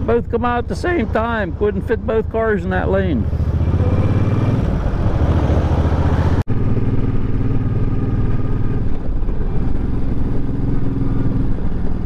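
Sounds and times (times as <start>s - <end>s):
motorcycle engine cruising: 0.8s - 12.0s.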